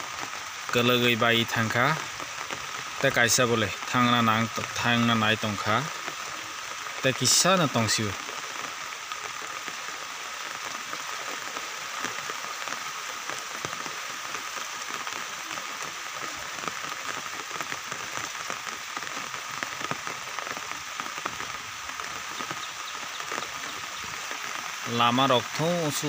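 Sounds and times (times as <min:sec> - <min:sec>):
raindrop ticks: 0:00.0 - 0:26.0
steady rain hiss: 0:00.0 - 0:26.0.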